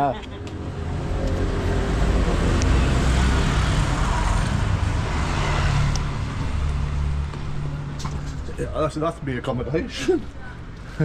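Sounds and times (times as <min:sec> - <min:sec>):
vehicle engine rumble and road noise: 0:00.0 - 0:11.0.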